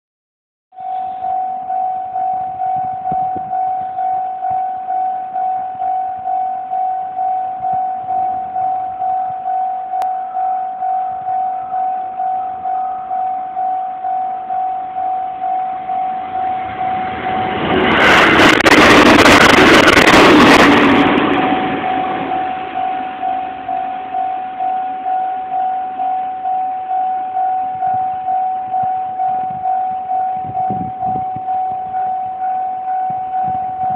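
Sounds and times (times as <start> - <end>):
level crossing warning bell: 0.8 - 17.4, 21.7 - 33.9
train passing: 0.8 - 33.9.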